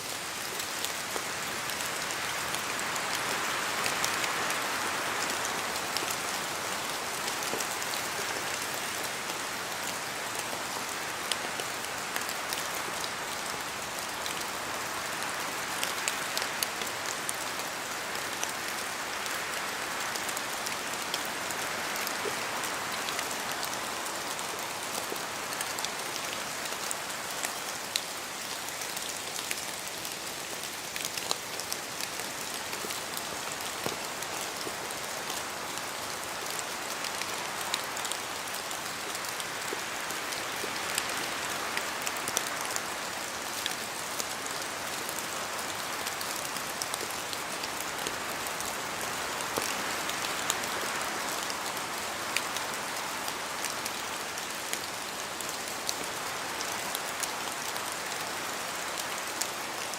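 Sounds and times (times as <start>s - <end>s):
steady rain in forest: 0.0s - 59.9s.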